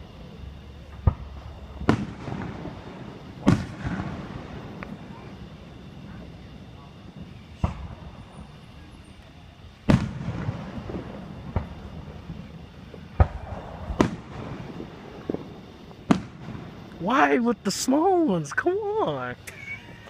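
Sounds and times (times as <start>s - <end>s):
fireworks exploding: 0.0s - 20.0s.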